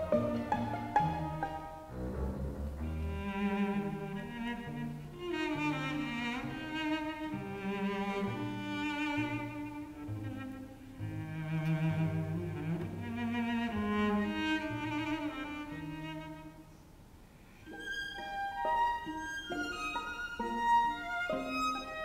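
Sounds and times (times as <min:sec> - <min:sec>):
solo violin: 0:00.0 - 0:22.0
string orchestra playing slowly: 0:00.0 - 0:22.0.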